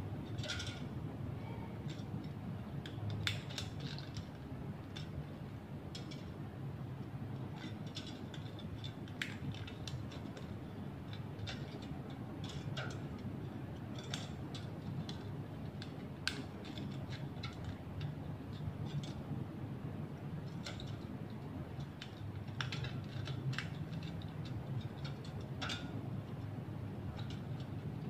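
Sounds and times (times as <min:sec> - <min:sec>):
steady low hum: 0:00.0 - 0:28.0
tin strips clicking and crinkling: 0:00.2 - 0:01.0, 0:01.8 - 0:19.3, 0:20.2 - 0:28.0.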